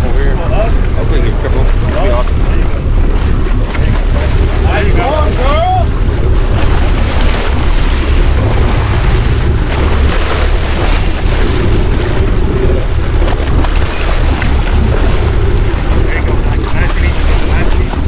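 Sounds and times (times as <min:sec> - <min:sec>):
sea wash: 0:00.0 - 0:18.0
wind buffeting microphone: 0:00.0 - 0:18.0.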